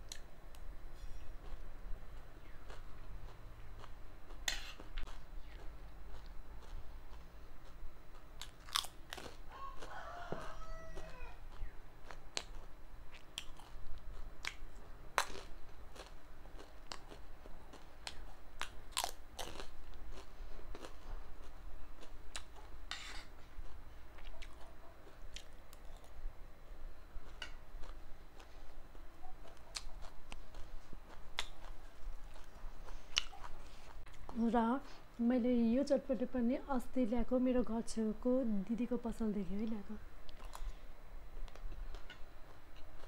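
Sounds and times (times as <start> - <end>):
crunching and chewing snacks: 1.4 - 26.3, 27.2 - 35.0, 40.3 - 40.8, 41.4 - 43.0.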